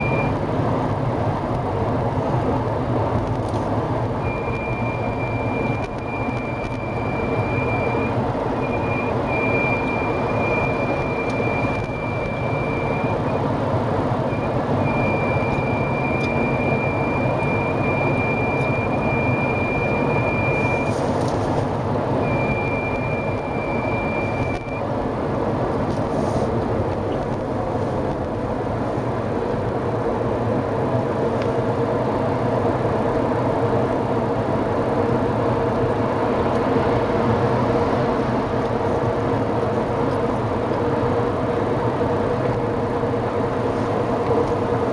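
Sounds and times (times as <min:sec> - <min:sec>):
car road noise: 0:00.0 - 0:44.9.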